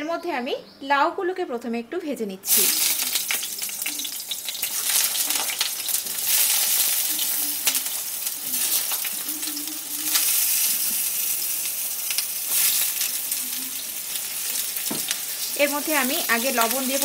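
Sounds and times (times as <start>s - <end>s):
vegetables sizzling in hot oil: 2.4s - 17.0s.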